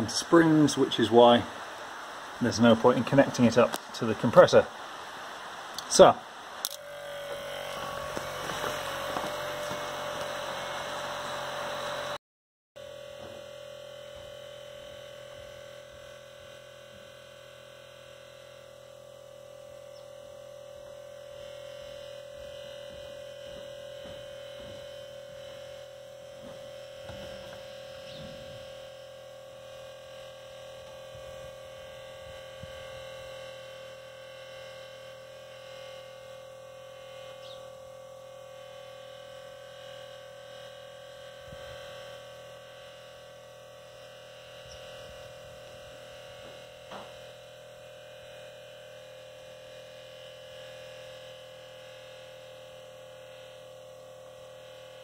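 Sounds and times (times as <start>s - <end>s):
air compressor humming: 0.0s - 12.2s, 12.8s - 55.0s.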